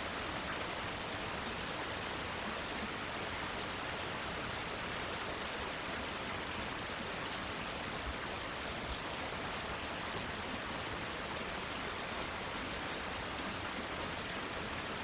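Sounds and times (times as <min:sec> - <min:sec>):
rain falling on foliage: 0:00.0 - 0:15.0.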